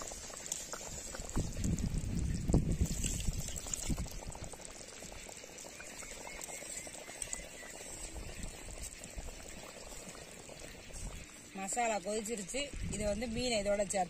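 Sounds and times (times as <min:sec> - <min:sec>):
gravy boiling in a pot: 0:00.0 - 0:14.0.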